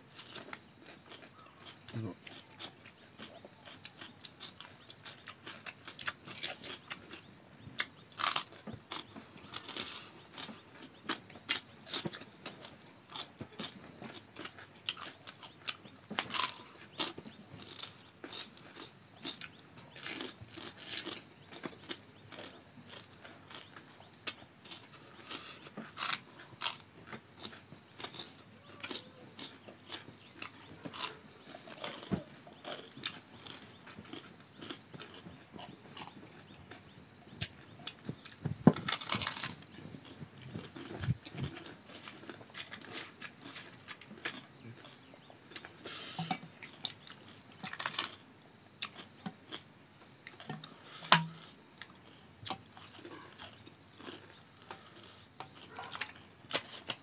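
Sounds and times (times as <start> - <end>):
people chewing and crunching: 0.0 - 57.0.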